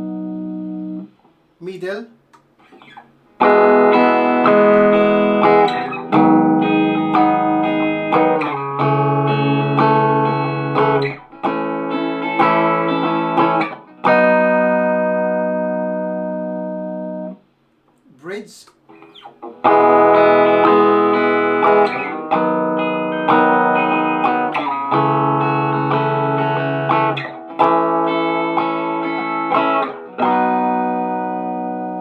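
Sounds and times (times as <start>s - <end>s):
strummed electric guitar chords: 0.0s - 1.0s, 2.7s - 17.3s, 18.4s - 32.0s.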